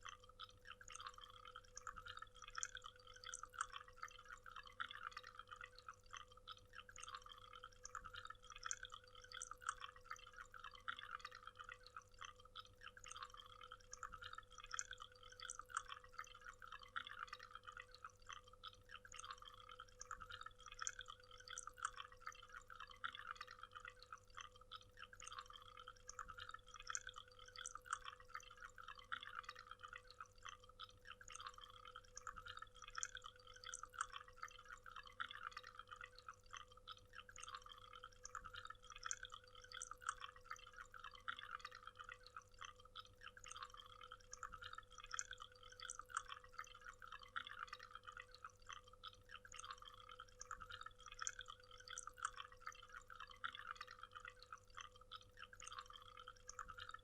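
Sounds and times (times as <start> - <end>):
faint steady hum: 0.0 - 57.0
water dripping: 0.0 - 57.0.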